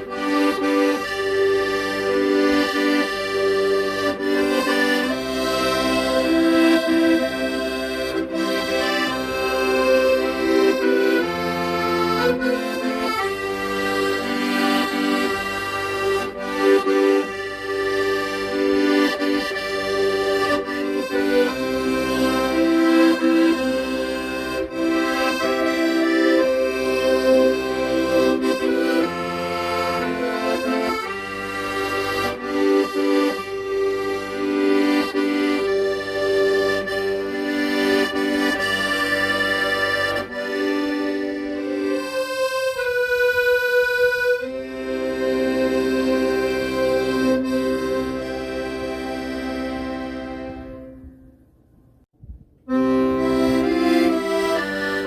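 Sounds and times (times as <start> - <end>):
accordion playing slow melody: 0.0 - 51.5, 52.7 - 55.0.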